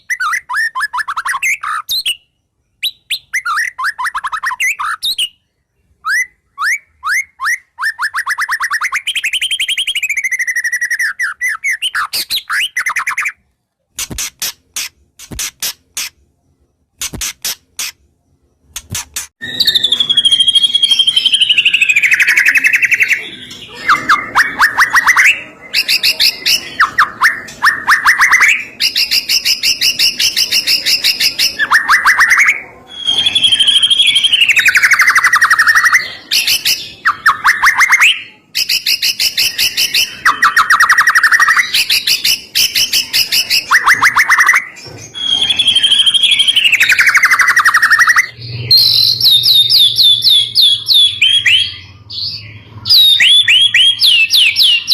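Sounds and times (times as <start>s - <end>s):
songbird whistling and trilling: 0.0s - 13.4s, 19.4s - 54.9s.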